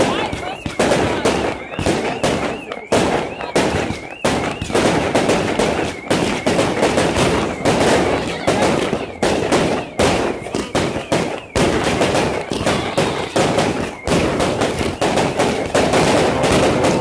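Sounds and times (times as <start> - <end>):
fireworks launch shots and bangs: 0.0 - 17.0.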